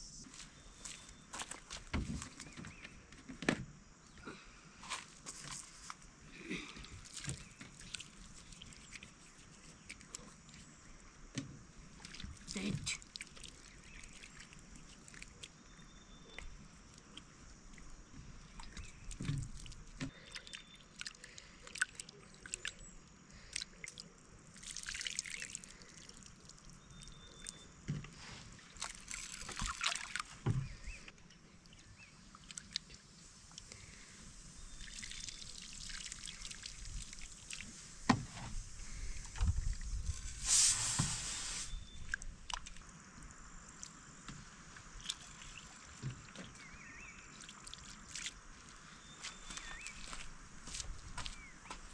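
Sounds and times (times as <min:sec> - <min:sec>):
water pouring and sloshing: 0:05.0 - 0:15.7, 0:16.5 - 0:43.0, 0:43.8 - 0:51.9.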